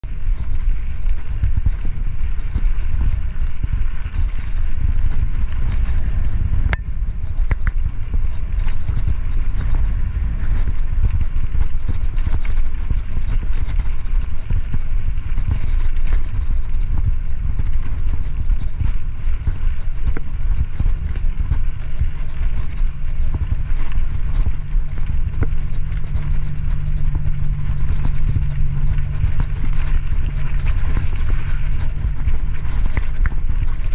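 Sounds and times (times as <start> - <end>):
bicycle rattles: 0.0 - 33.9
road rumble: 0.0 - 33.9
steady low hum: 0.0 - 33.9
wind buffeting microphone: 0.0 - 33.9.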